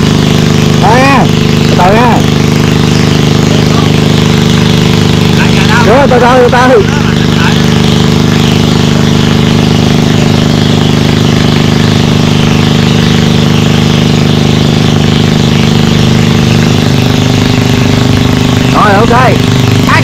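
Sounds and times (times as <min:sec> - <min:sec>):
small engine running steadily: 0:00.0 - 0:20.0.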